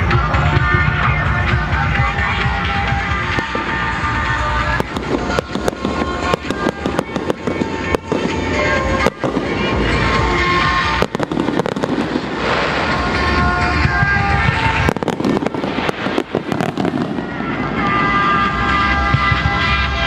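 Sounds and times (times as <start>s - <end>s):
fireworks bursting and crackling: 0.0s - 20.0s
music playing: 0.0s - 20.0s.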